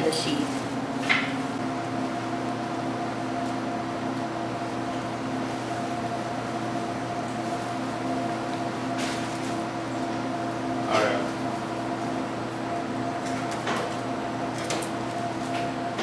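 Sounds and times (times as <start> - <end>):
steady equipment hum: 0.0 - 16.0.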